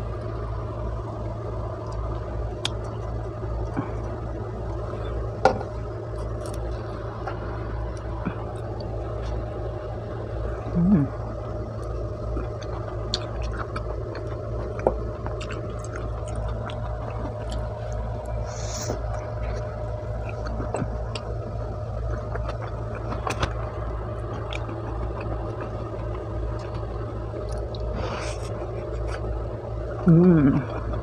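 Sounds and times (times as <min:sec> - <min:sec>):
steady low hum: 0:00.0 - 0:31.0
chewing and mouth sounds: 0:01.8 - 0:05.3, 0:06.0 - 0:09.5, 0:10.7 - 0:21.4, 0:22.0 - 0:31.0.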